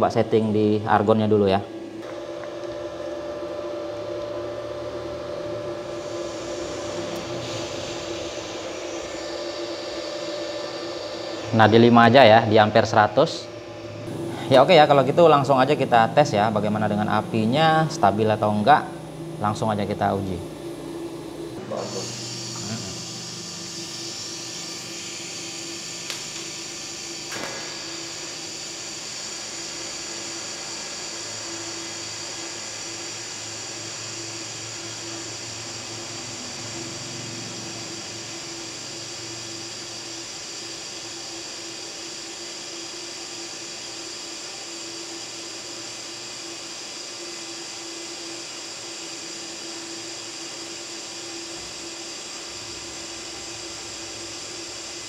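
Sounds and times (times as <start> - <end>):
welding arc hissing: 4.6 - 55.0.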